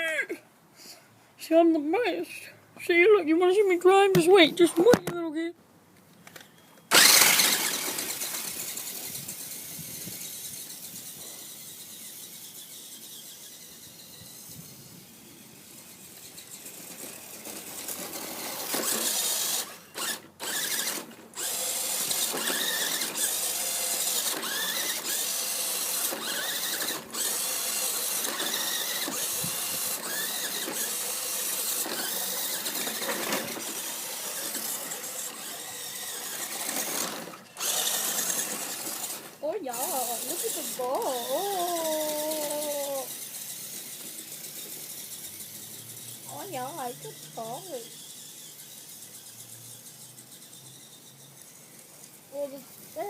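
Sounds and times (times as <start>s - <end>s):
toy car motor whining: 6.3s - 53.0s.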